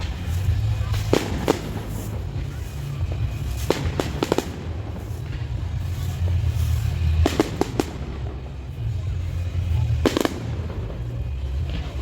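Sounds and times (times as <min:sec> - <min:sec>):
fireworks bangs: 0:00.0 - 0:12.0
steady low rumble: 0:00.0 - 0:12.0.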